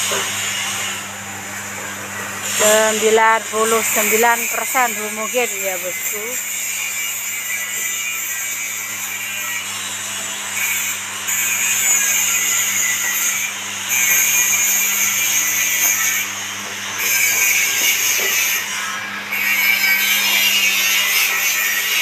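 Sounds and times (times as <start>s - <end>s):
mixer humming: 0.0s - 7.0s, 9.6s - 22.0s.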